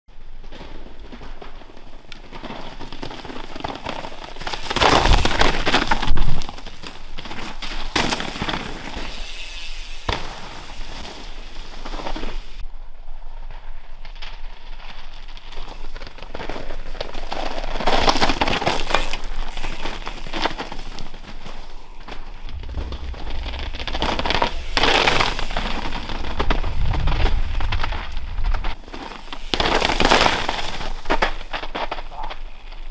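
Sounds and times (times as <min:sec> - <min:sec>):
bike tyres crunching over stones: 0:00.1 - 0:32.9
gravel clattering: 0:00.1 - 0:32.9.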